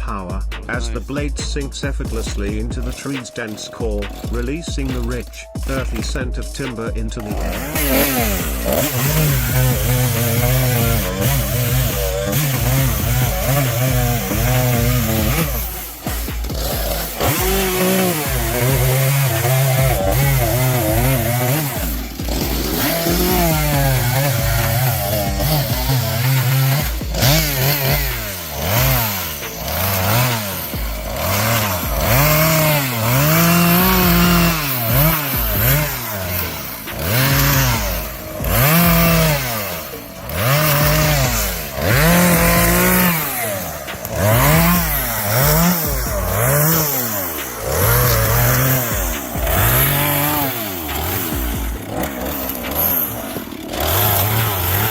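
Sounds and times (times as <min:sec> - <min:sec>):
chainsaw revving cutting wood: 0:00.0 - 0:54.9.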